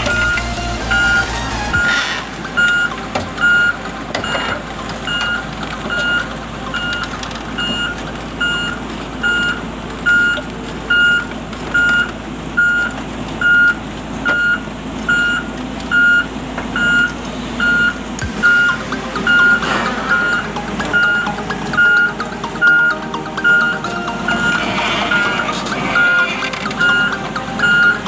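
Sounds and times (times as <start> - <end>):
crane engine running: 0.0 - 28.0
crane travel alarm beeping: 0.0 - 28.0.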